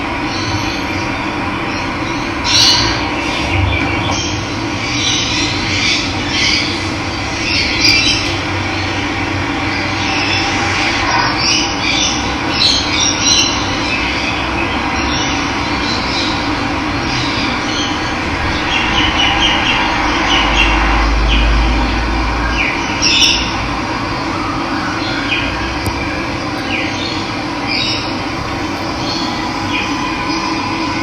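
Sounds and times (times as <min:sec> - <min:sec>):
wild birds calling: 0:00.3 - 0:31.0.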